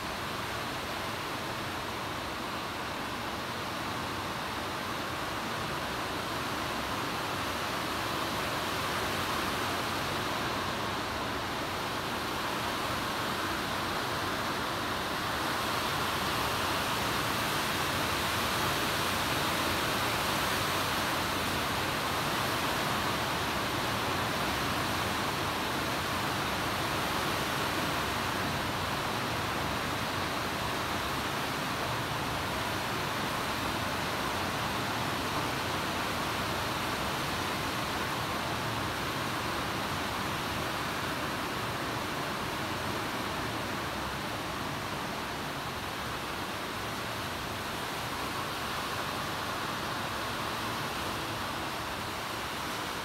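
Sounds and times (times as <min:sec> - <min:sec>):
steady hiss: 0:00.0 - 0:53.0.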